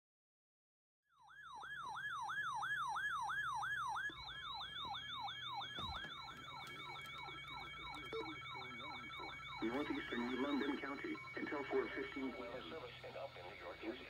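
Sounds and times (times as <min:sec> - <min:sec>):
electronic siren yelping: 0:01.1 - 0:14.0.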